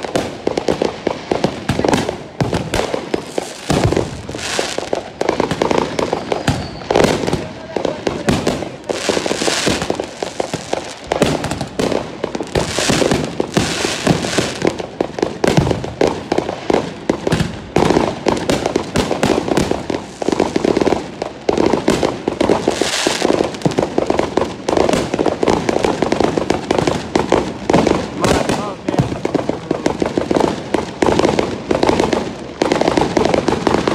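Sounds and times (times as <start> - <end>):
fireworks bangs and pops: 0.0 - 33.9
fireworks crackling: 0.0 - 33.9.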